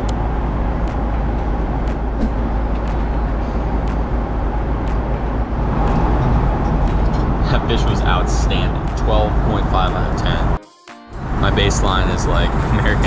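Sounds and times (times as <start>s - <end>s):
airplane cabin roar: 0.0s - 10.6s, 11.2s - 13.0s.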